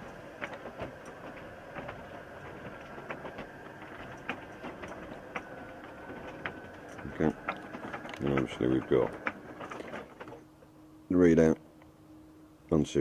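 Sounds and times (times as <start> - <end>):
roller door motor hum: 0.0 - 12.4.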